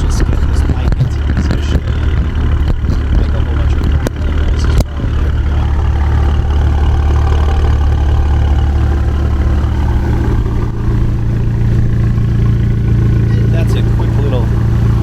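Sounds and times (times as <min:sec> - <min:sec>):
car exhaust idling: 0:00.0 - 0:15.0.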